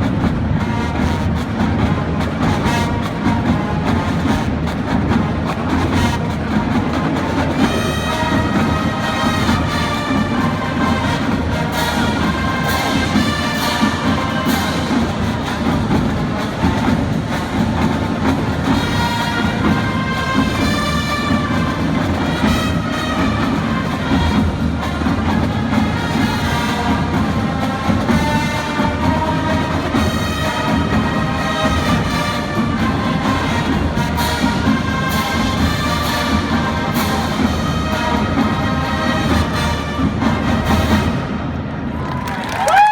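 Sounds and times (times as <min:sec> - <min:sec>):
brass band playing: 0:00.0 - 0:42.8
drums and percussion: 0:00.0 - 0:42.9.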